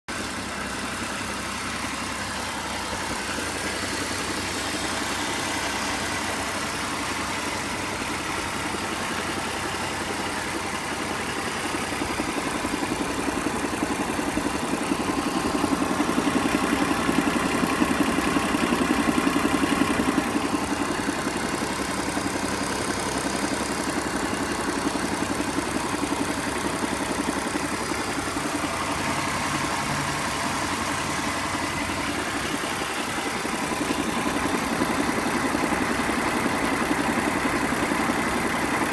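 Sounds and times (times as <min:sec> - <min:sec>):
car engine idling: 0:00.1 - 0:38.9.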